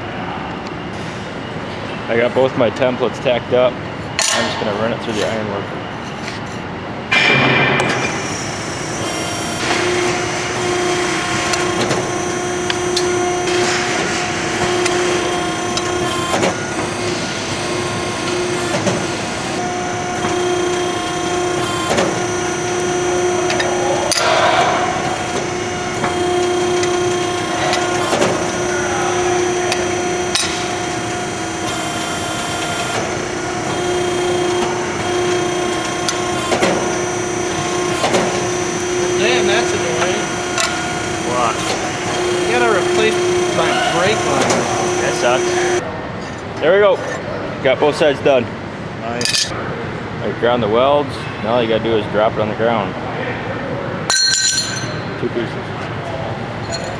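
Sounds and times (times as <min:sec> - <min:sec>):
machine humming: 0:00.0 - 0:49.6.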